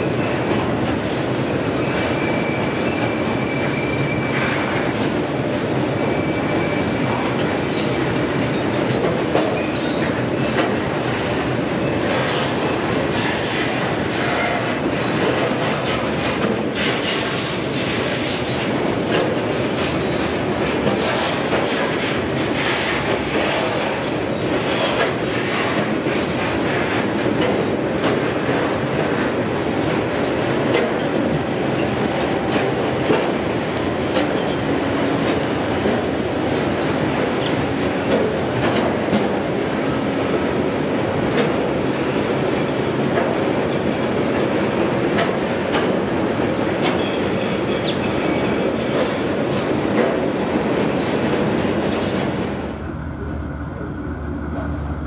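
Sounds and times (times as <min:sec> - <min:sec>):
train wheels clacking over rail joints: 0:00.0 - 0:52.7.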